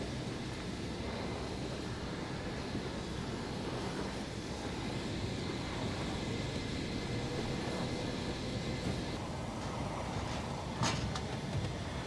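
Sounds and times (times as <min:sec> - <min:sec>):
aircraft engine rumble: 0:00.0 - 0:12.0
faint high whine: 0:00.0 - 0:12.0.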